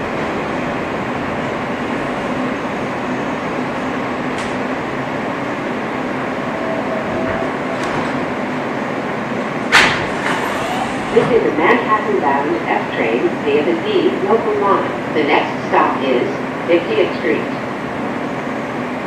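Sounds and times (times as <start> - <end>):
subway car ventilation hum and hiss: 0.0 - 19.0.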